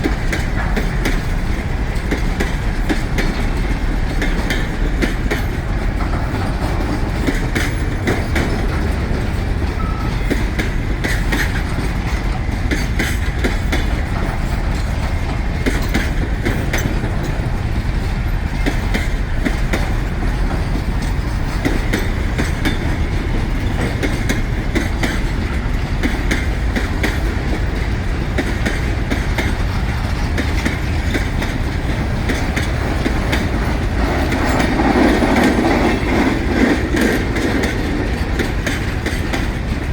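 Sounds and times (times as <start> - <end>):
train wheels rumbling on rail: 0.0 - 39.9
wheels and couplings clanking: 0.0 - 39.9.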